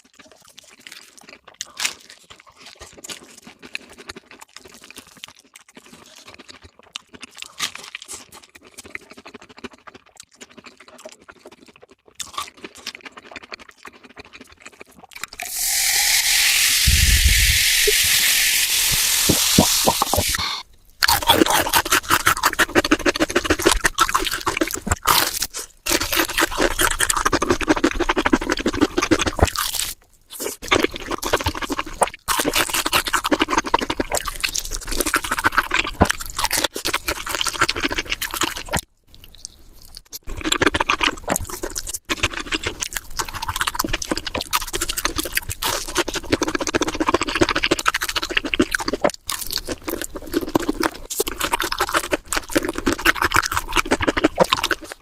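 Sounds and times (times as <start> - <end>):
chewing crispy food: 0.0 - 17.4, 19.2 - 55.0.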